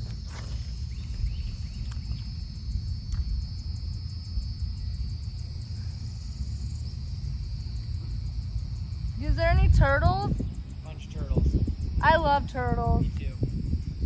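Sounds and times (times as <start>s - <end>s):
high-pitched insect drone: 0.0s - 14.0s
wind rumble on microphone: 0.0s - 14.0s.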